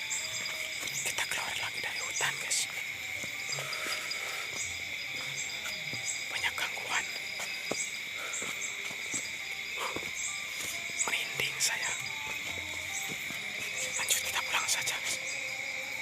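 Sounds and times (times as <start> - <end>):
insect chorus droning: 0.0 - 16.0.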